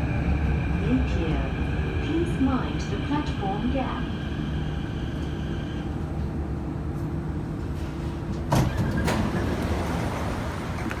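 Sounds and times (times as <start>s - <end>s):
train car low rumble: 0.0s - 11.0s
train whine: 0.0s - 11.0s.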